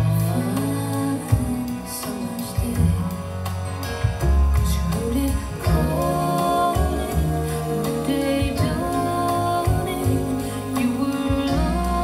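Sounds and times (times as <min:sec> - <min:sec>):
song with singing and guitar: 0:00.0 - 0:12.0
strong bass line: 0:00.0 - 0:12.0.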